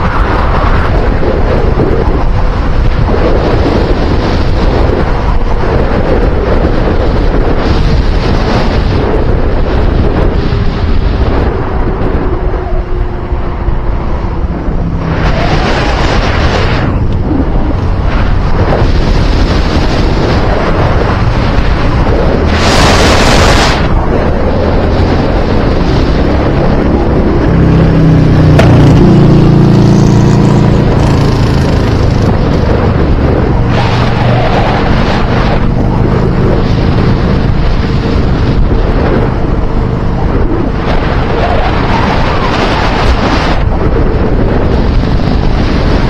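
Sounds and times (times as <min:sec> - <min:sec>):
road and vehicle rumble: 0:00.0 - 0:46.0
rushes of noise: 0:00.0 - 0:46.0
wind buffeting microphone: 0:00.0 - 0:46.0.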